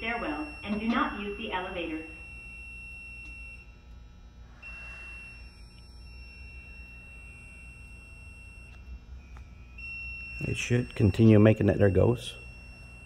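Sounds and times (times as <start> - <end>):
fire alarm high-pitched tone: 0.0 - 13.0.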